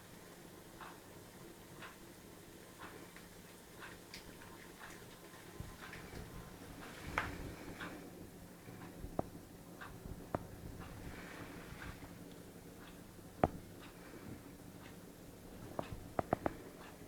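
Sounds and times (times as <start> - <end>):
faint regular ticking: 0.4 - 17.0.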